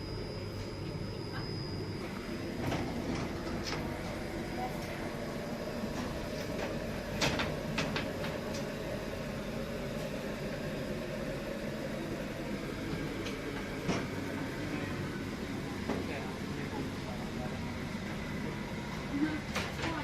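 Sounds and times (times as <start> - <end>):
low hum and rumble: 0.0 - 20.0.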